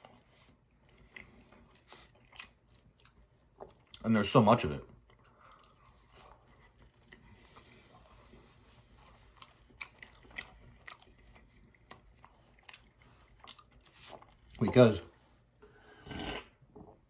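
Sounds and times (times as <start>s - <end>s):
person chewing soft food: 0.0s - 4.1s, 4.8s - 14.7s.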